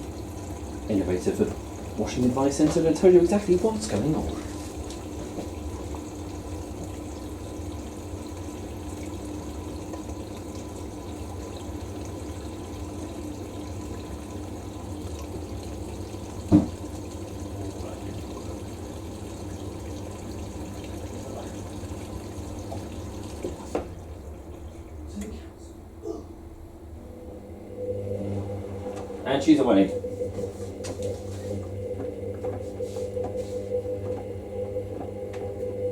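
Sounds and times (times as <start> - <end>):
washing machine filling with water: 0.0 - 35.9.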